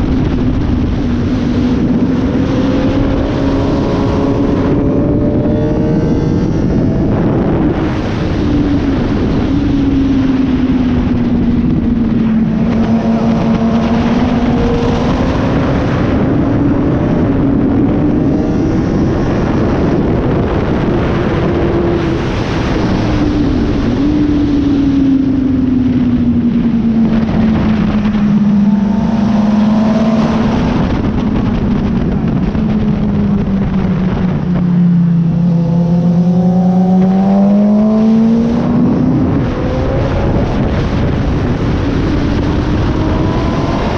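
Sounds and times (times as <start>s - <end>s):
heavy wind rush: 0.0s - 43.9s
motorcycle engine at high revs: 0.0s - 43.9s.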